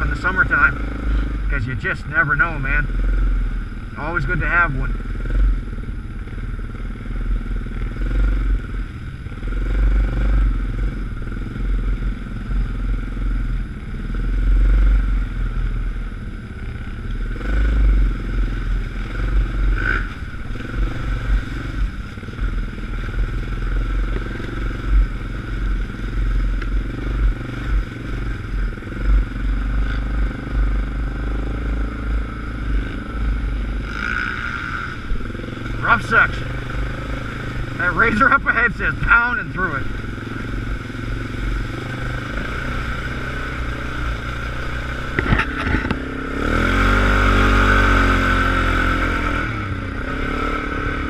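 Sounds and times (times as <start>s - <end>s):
atv engine running: 0.0s - 51.0s.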